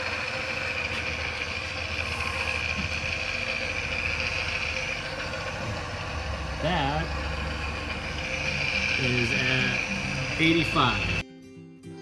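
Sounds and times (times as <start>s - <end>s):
drill press running: 0.0s - 11.2s.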